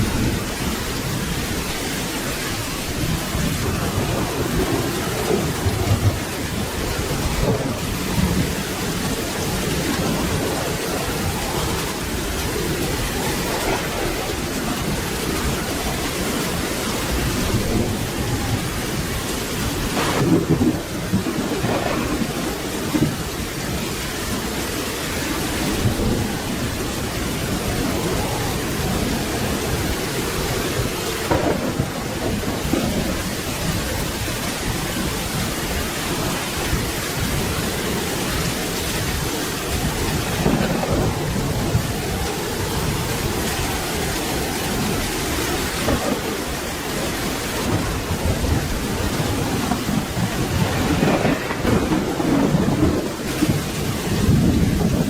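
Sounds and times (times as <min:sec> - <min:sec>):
steady rain: 0:00.0 - 0:55.0
thunder rumbling: 0:00.0 - 0:55.0.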